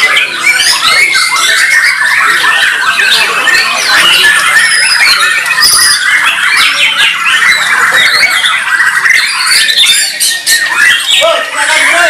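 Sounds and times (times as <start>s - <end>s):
songbirds singing whistles and trills: 0.0s - 12.0s.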